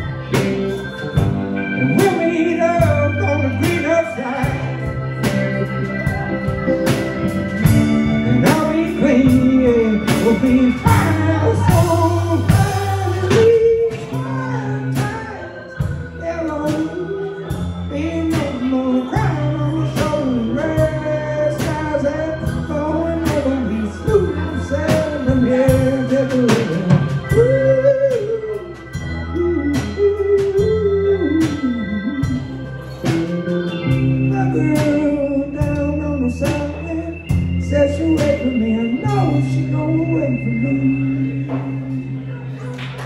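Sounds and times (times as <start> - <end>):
bending lead guitar line: 0.0 - 43.0
live band playing: 0.0 - 43.0.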